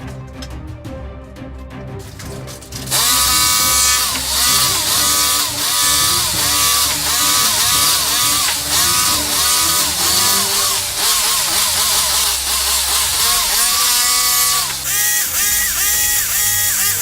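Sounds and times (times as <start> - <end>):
electric power tool motor running: 2.9 - 17.0.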